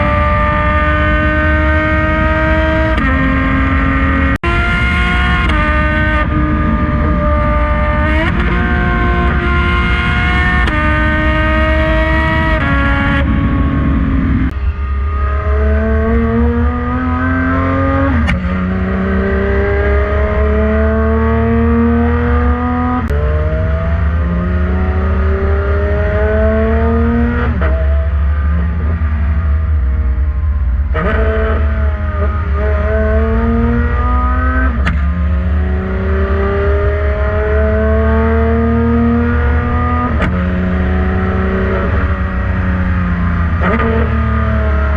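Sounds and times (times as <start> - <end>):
car engine accelerating hard: 0.0 - 44.9.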